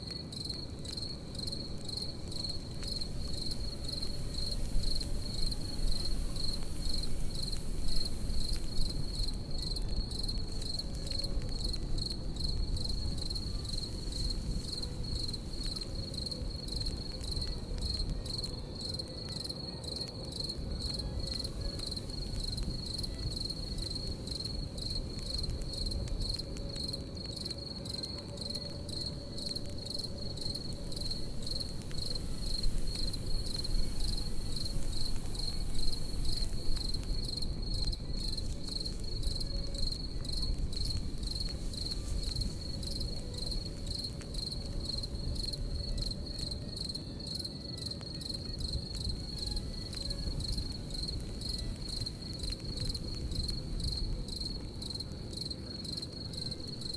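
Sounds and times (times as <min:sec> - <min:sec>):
campfire crackling: 0:00.0 - 0:56.9
crickets chirping: 0:00.0 - 0:56.9
small pops from fire: 0:00.0 - 0:56.9.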